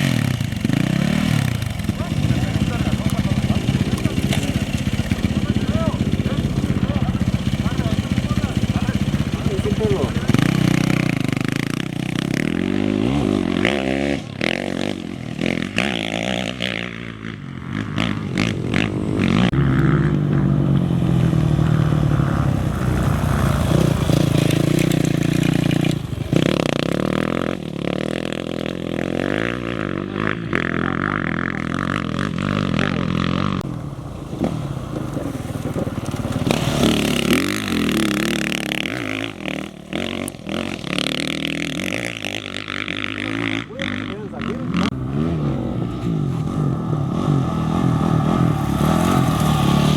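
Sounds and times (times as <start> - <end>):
motorcycle engines revving and passing: 0.0 - 49.9.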